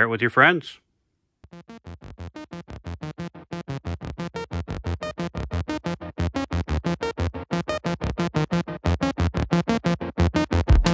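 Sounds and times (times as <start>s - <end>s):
fast repeated music notes: 1.5s - 10.9s.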